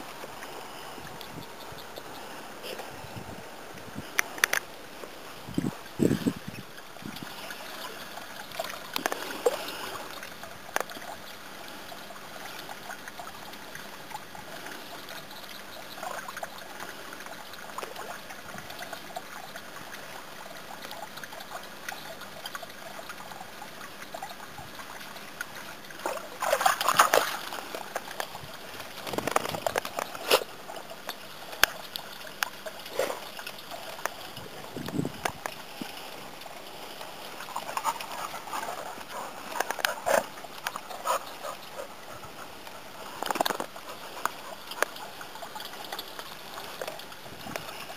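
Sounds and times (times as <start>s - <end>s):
water trickling and sloshing: 0.0s - 47.9s.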